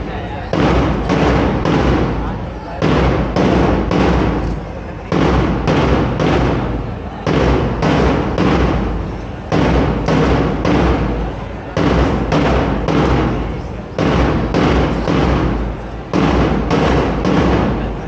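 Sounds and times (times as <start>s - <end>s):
heavy drum beats echoing: 0.0s - 18.0s.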